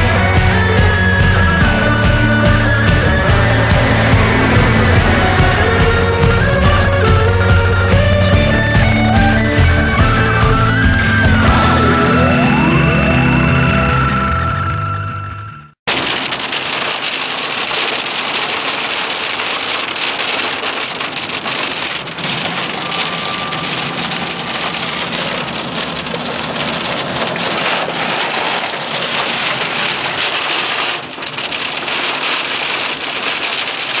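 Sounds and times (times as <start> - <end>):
rain on car roof: 0.0 - 12.0, 15.9 - 34.0
car driving on wet road: 0.0 - 13.6, 15.9 - 34.0.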